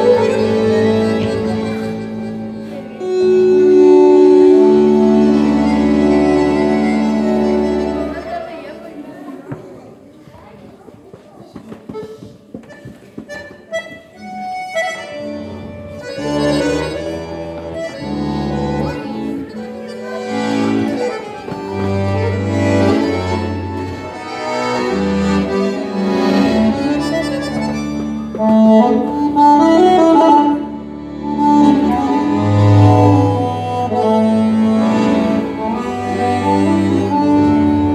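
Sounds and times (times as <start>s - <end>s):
accordions playing a tune: 0.0s - 9.2s, 11.9s - 37.9s.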